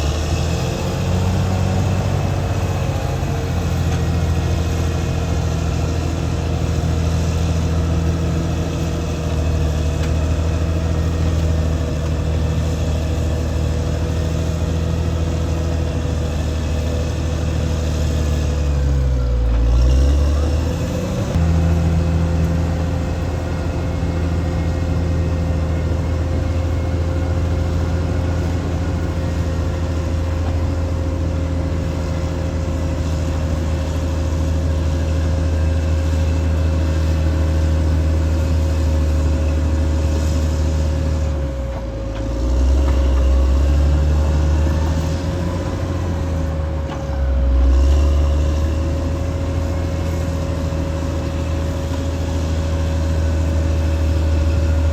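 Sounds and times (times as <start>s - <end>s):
bulldozer diesel engine running: 0.0s - 54.9s
constant whine: 0.0s - 54.9s.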